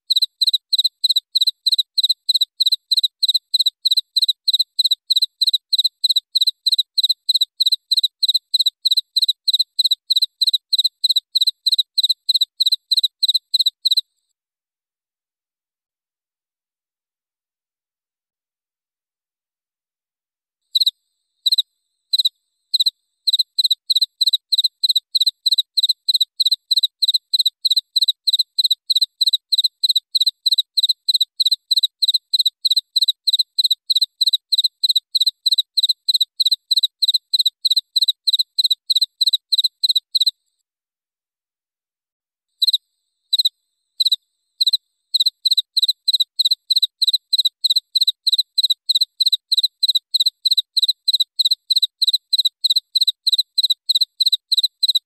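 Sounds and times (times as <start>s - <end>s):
cricket chirping: 0.1s - 14.1s, 20.7s - 40.3s, 42.6s - 55.0s.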